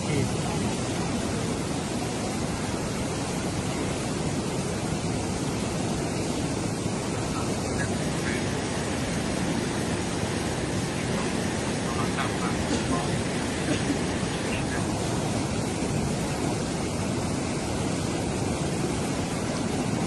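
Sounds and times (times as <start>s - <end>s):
flood water rushing: 0.0s - 20.0s.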